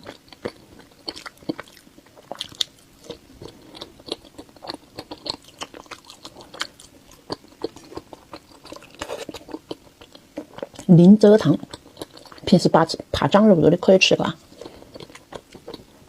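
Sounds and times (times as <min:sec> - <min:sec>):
chewing with wet mouth smacks: 0:00.0 - 0:12.6, 0:14.4 - 0:16.0.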